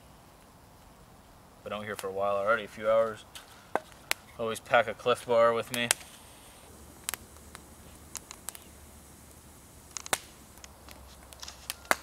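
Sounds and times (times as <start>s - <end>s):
campfire crackling and popping: 0.3s - 12.0s.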